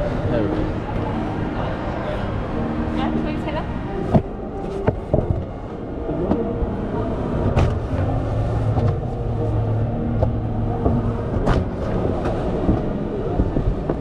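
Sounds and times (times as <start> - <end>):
conveyor belt motor humming: 0.0 - 14.0.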